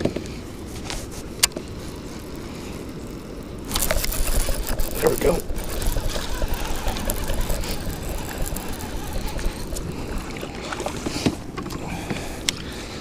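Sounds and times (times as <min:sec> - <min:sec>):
water sloshing around kayak: 0:00.6 - 0:13.0
wind buffeting microphone: 0:01.6 - 0:13.0.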